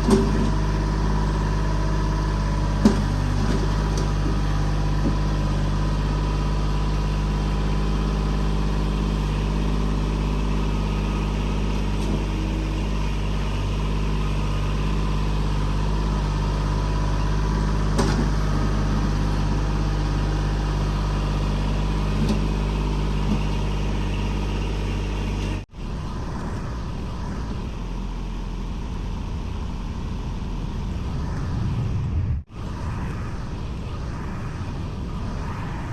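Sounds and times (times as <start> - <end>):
diesel tractor engine running: 0.0 - 35.6.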